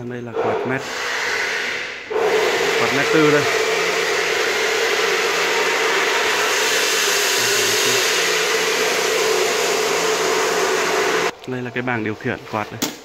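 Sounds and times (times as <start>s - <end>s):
exhaust fan air rushing: 0.0s - 11.3s
fan motor hum: 0.0s - 11.7s.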